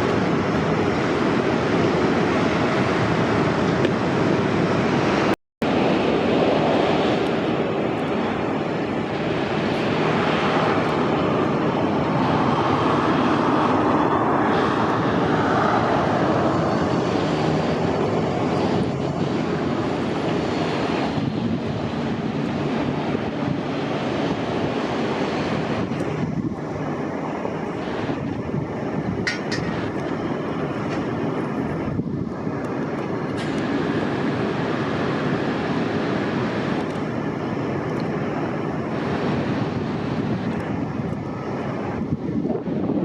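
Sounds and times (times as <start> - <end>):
jet engines rushing: 0.0 - 43.0.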